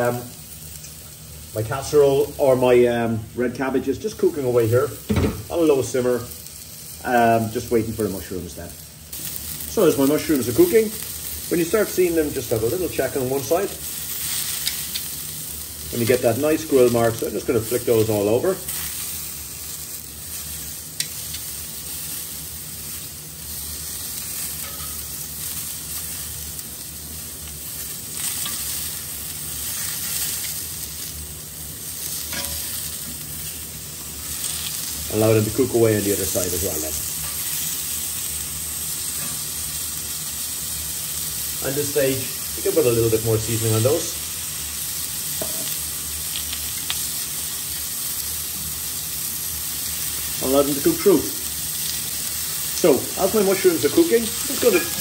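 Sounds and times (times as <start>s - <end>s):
mushrooms sizzling in oil: 0.0s - 55.0s.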